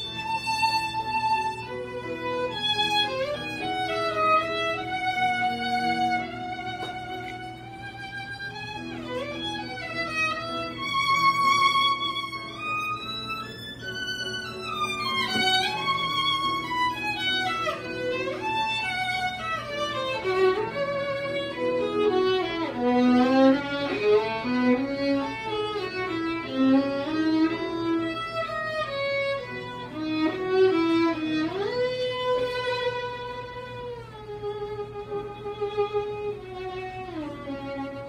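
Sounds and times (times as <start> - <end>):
violin melody: 0.0 - 38.0.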